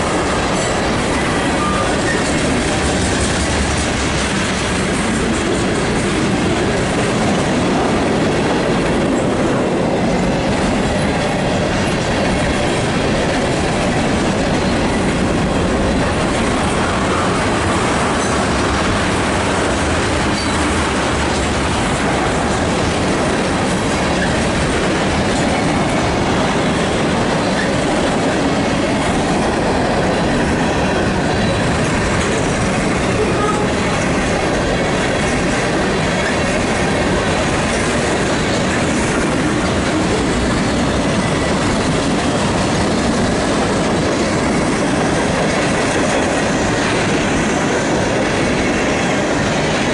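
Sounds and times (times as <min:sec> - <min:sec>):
freight train wheels on rails: 0:00.0 - 0:49.9.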